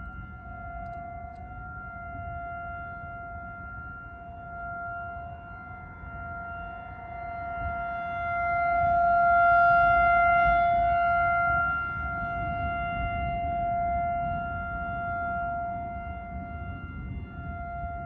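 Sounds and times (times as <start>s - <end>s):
tornado warning siren steady tone: 0.0s - 18.0s.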